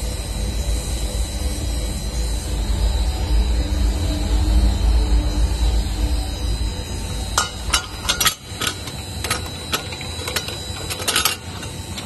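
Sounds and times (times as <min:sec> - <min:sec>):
mixer motor and blades running: 0:00.0 - 0:12.0.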